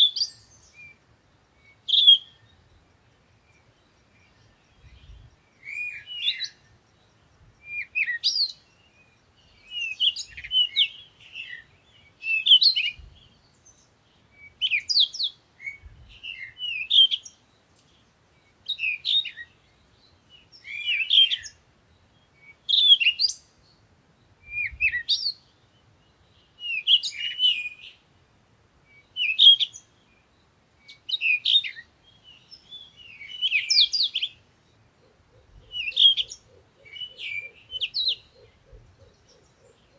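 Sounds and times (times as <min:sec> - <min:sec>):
songbird singing chirping phrases: 0:00.0 - 0:39.9.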